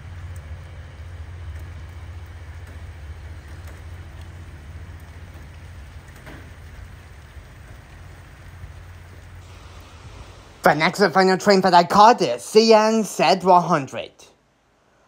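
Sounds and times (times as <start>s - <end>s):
train rolling past: 0.0s - 14.0s.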